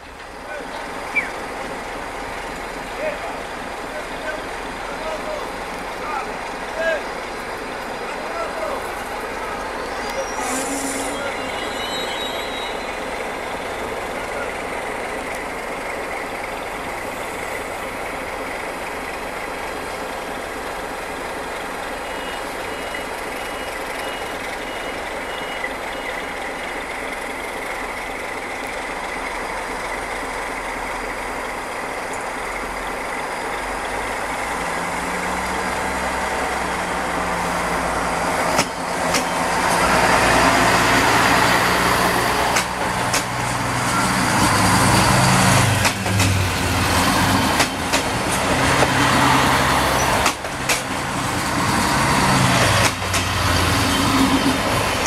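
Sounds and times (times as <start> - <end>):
train engine and wheels rumbling: 0.0 - 55.0.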